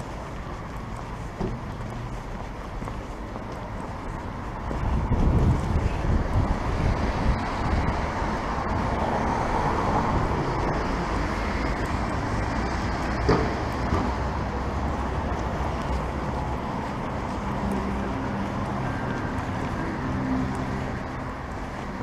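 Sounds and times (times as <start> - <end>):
longboard wheels rumbling on asphalt: 0.0 - 22.0.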